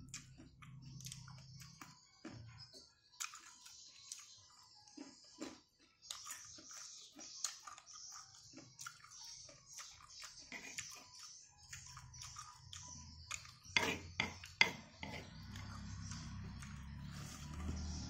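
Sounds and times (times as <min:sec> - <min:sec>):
man chewing food: 0:00.0 - 0:18.0.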